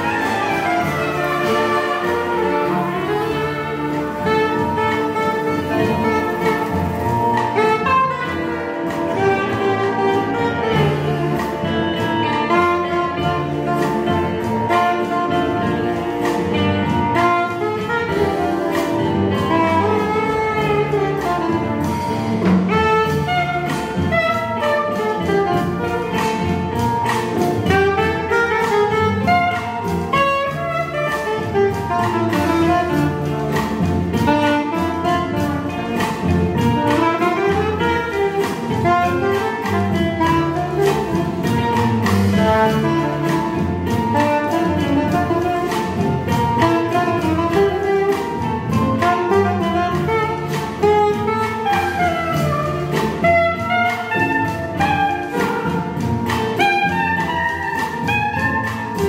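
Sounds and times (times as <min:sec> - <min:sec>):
big band accompaniment: 0:00.0 - 0:59.0
soprano saxophone jazz solo: 0:00.0 - 0:59.0.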